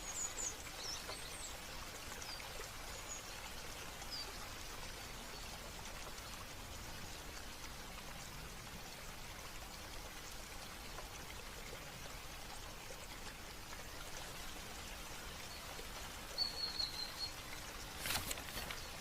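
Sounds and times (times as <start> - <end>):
water trickling and dripping: 0.0 - 19.0.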